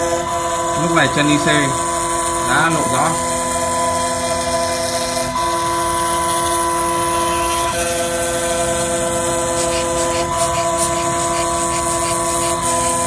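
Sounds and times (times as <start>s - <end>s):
milling machine whine: 0.0s - 13.0s.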